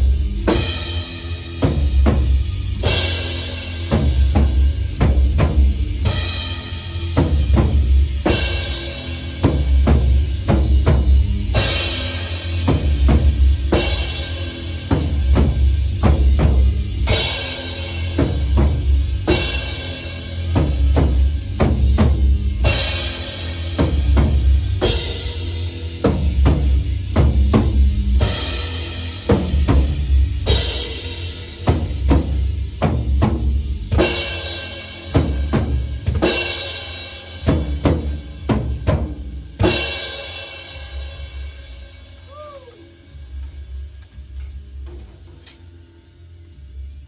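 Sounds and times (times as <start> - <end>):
driving bass drum: 0.0 - 45.5
crash cymbal: 0.0 - 45.8.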